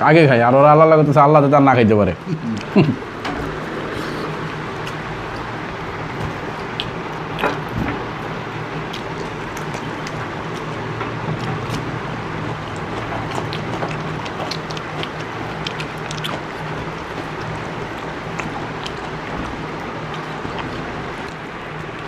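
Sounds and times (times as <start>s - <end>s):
steady low hum: 0.0s - 22.0s
light clicks of people eating: 2.2s - 22.0s.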